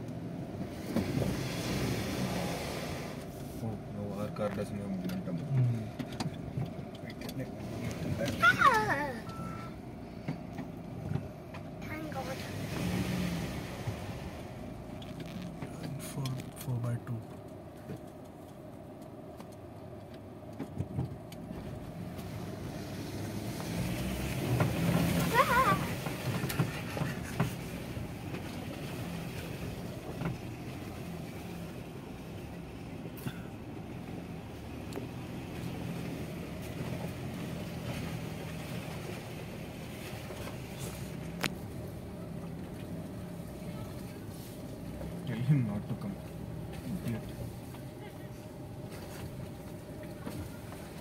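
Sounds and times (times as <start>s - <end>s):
engine humming inside cabin: 0.0s - 51.0s.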